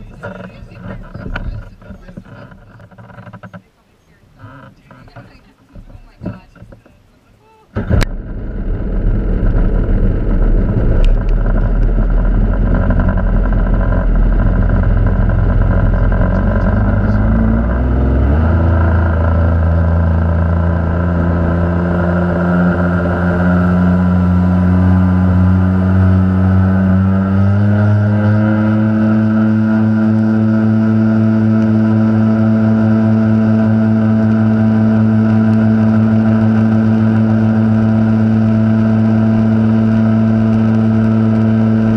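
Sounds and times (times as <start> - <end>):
jet ski engine running: 0.0 - 41.9
rough water: 0.0 - 41.9
wind noise: 7.7 - 41.9.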